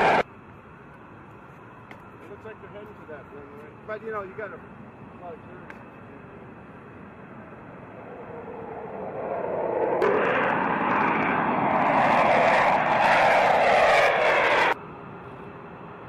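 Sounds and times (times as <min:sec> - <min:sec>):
fighter jets passing overhead: 0:00.0 - 0:00.3, 0:02.4 - 0:16.0.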